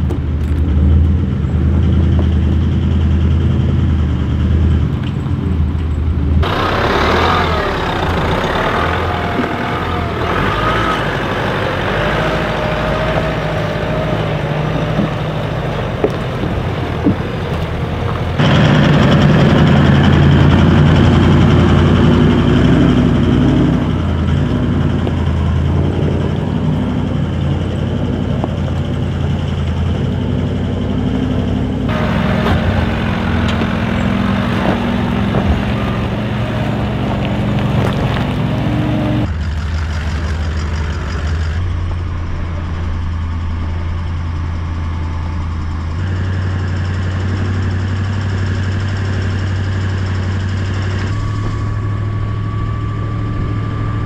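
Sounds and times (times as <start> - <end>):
off-road engines climbing: 0.0 - 54.0.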